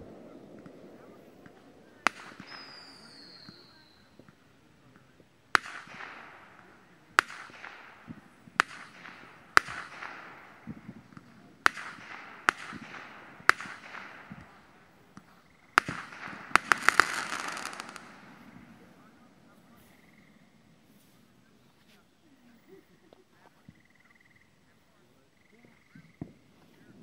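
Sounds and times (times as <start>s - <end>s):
fireworks bangs: 0.0s - 22.5s
fireworks crackle: 0.0s - 22.5s.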